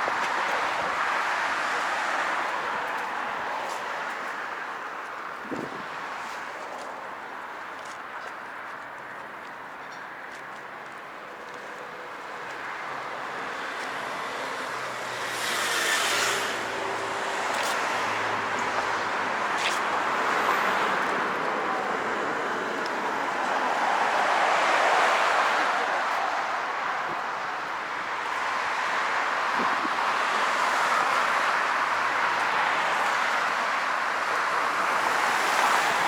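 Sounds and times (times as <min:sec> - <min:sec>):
cars passing: 0:00.0 - 0:07.6, 0:10.2 - 0:36.0.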